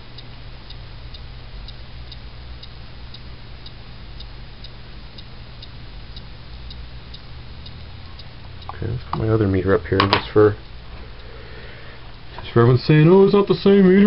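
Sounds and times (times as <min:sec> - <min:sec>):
faint even ticking: 0:00.0 - 0:14.0
low steady hum: 0:00.0 - 0:14.0.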